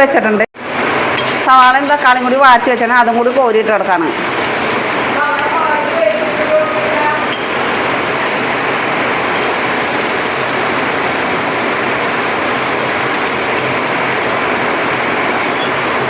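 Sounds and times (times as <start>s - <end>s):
heavy rain falling: 0.6s - 16.0s.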